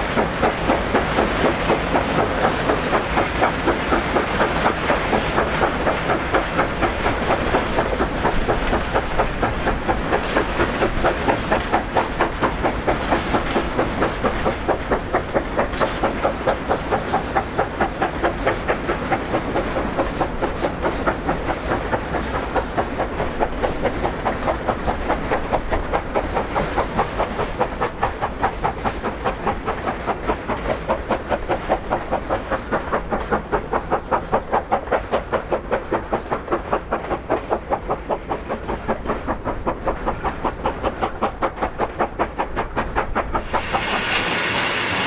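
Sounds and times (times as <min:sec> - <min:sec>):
steam locomotive exhaust beats: 0:00.0 - 0:45.0.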